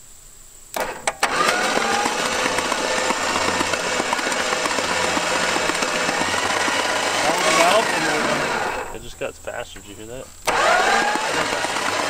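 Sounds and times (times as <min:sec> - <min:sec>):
clicks: 0:00.7 - 0:12.0
starter motor cranking engine: 0:00.7 - 0:12.0.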